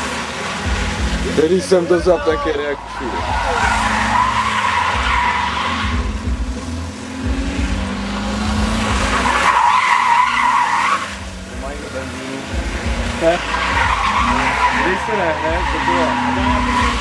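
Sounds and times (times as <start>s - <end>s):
car engine revving: 0.0s - 17.0s
tyres squealing: 0.8s - 6.2s, 8.4s - 17.0s.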